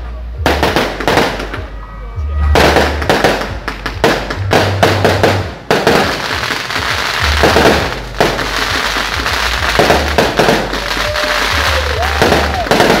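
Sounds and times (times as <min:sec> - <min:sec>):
fireworks crackling and popping: 0:00.0 - 0:01.8, 0:02.5 - 0:13.0
music with deep bass beat: 0:00.0 - 0:13.0.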